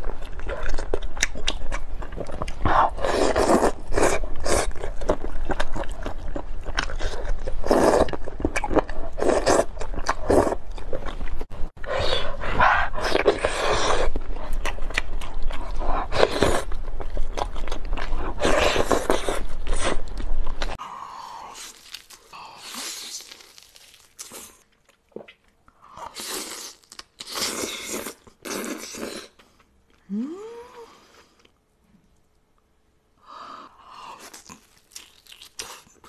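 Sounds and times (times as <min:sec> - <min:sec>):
person chewing wet food: 0:00.0 - 0:30.0, 0:33.7 - 0:36.0.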